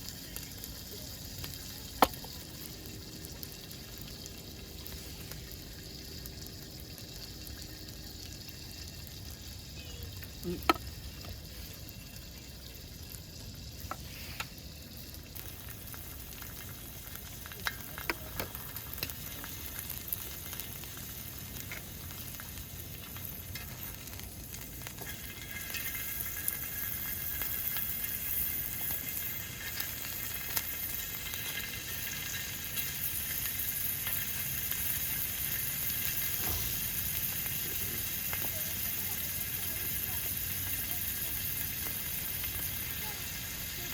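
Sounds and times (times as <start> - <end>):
food sizzling in a pan: 0.0 - 43.9.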